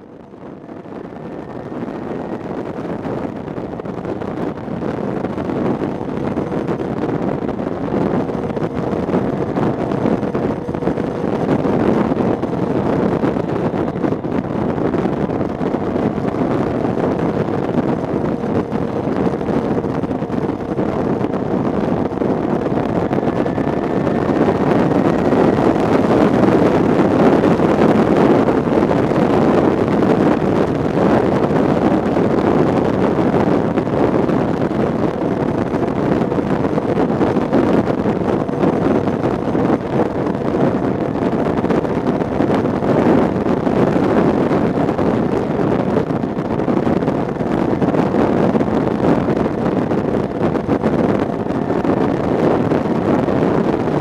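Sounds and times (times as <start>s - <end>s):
motorcycle engine tone: 0.0s - 44.7s
wind rushing over microphone: 0.0s - 54.0s.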